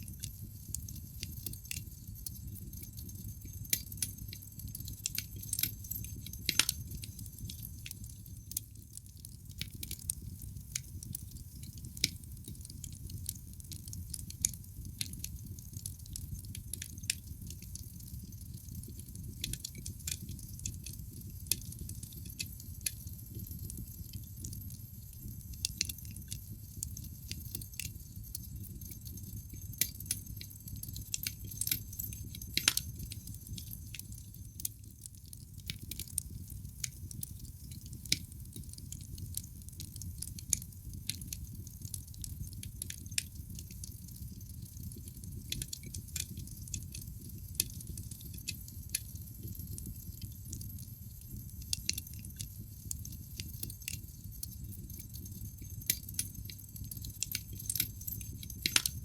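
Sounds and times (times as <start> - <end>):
logs crackling in a fireplace: 0.0 - 59.0.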